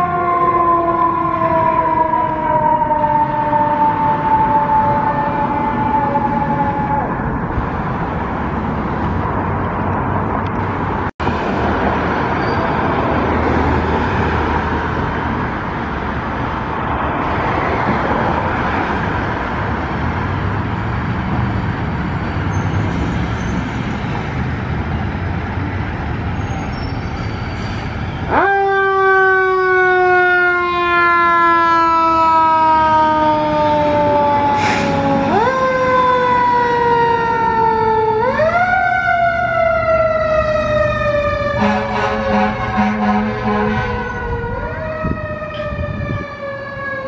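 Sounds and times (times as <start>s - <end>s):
fire engine siren: 0.0s - 9.8s, 10.4s - 47.0s
traffic noise: 0.0s - 47.0s.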